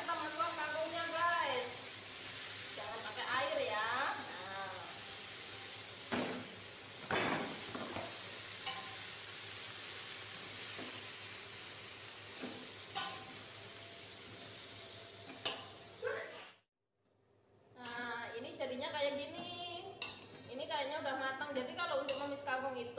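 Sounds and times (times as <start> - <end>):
vegetables sizzling in a wok: 0.0 - 16.7, 17.8 - 22.9.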